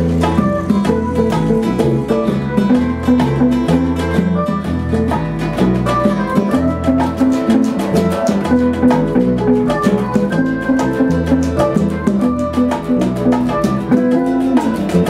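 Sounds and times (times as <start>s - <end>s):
acoustic guitar: 0.0s - 15.0s
bongos: 0.0s - 15.0s
electric bass: 0.0s - 15.0s
electric guitar: 0.0s - 15.0s.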